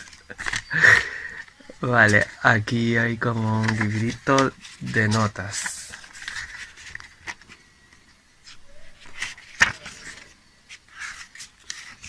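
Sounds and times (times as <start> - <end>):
paper booklet rustling: 1.9 - 12.0.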